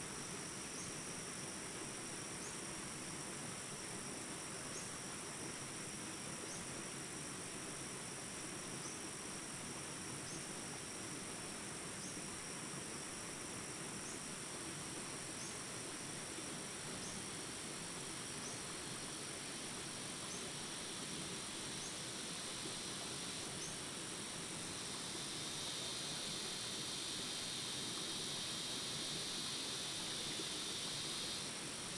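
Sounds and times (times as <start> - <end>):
insects trilling: 0.1 - 31.9
rush of small rapids: 0.1 - 31.9.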